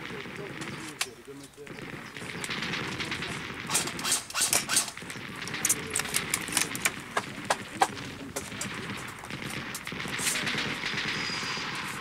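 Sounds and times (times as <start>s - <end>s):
gunshots: 0.0s - 12.0s.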